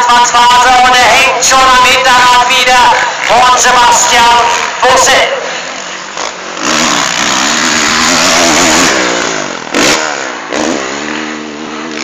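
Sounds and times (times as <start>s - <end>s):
motocross bikes revving past: 2.2s - 12.0s.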